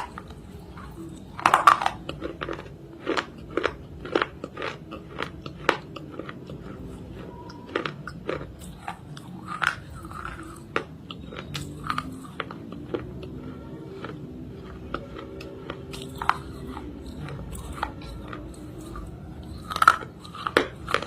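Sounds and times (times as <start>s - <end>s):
crunchy chewing: 0.0s - 21.0s.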